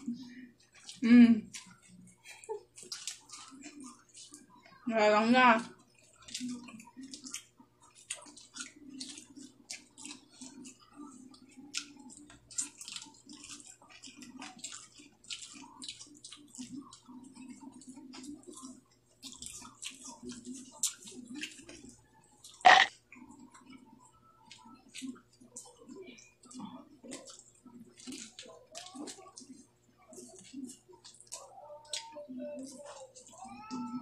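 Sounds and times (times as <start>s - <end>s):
people chewing: 0.0s - 34.0s.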